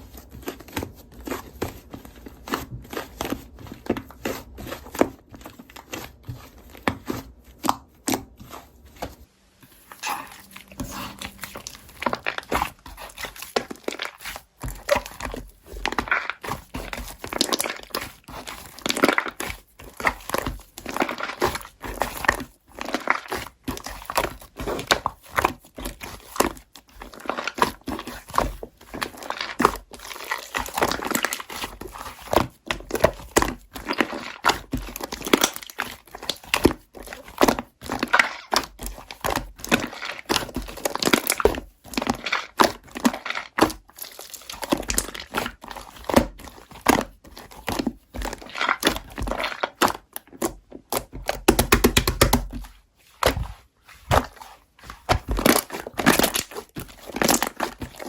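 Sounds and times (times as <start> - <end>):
material crinkling: 0.0 - 58.0.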